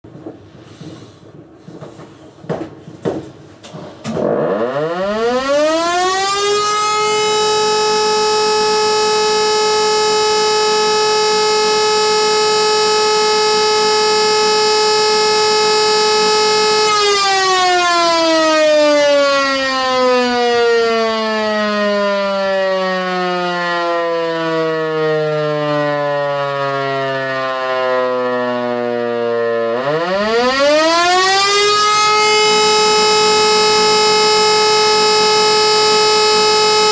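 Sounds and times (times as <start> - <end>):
electromechanical siren wailing: 4.1 - 36.9.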